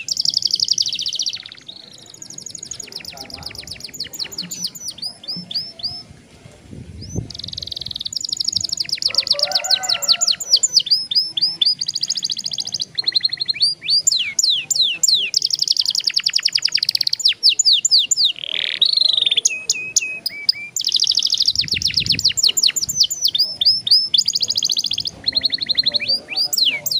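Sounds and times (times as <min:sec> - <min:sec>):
canary singing trills: 0:00.0 - 0:06.1, 0:07.0 - 0:26.9.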